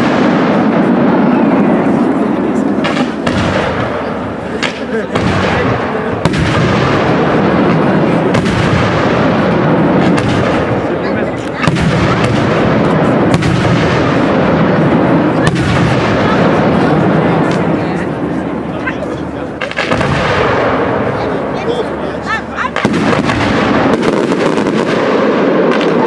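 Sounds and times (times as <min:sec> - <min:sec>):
firework bangs: 0:00.0 - 0:26.0.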